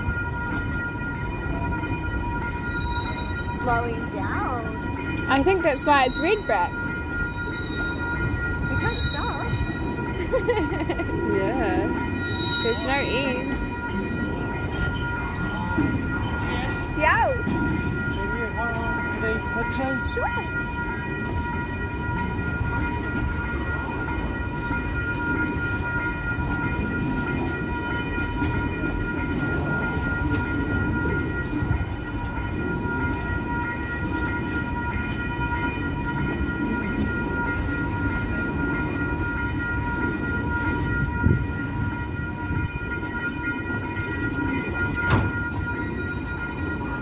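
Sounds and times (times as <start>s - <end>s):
crossing warning bells ringing: 0.0s - 47.0s
train wheels rumbling on rails: 0.0s - 47.0s.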